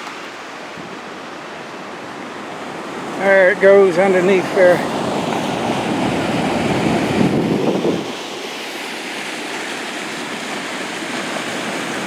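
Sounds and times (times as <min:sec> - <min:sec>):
water rushing under a bridge: 0:00.0 - 0:12.0.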